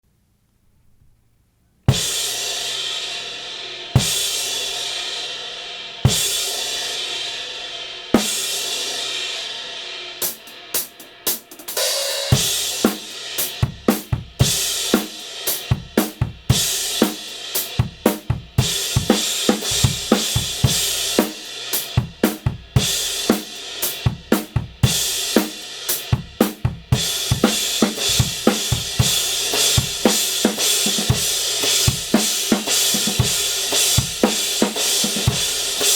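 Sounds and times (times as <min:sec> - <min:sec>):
drum kit beat: 0:01.9 - 0:35.9.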